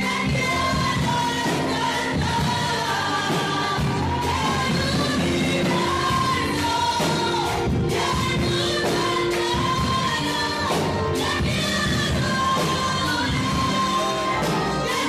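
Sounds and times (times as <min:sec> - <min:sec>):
musical accompaniment: 0:00.0 - 0:15.0
voices singing worship song: 0:00.0 - 0:15.0.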